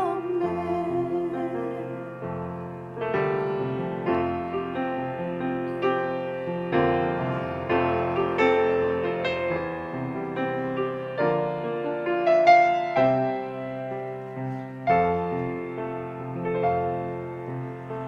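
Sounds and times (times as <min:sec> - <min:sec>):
slow piano hymn: 0:00.0 - 0:18.0.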